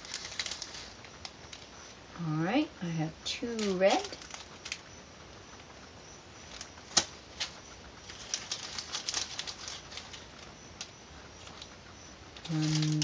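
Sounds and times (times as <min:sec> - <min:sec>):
plastic bag crinkling: 0:00.0 - 0:02.0, 0:02.6 - 0:05.0, 0:06.4 - 0:13.0.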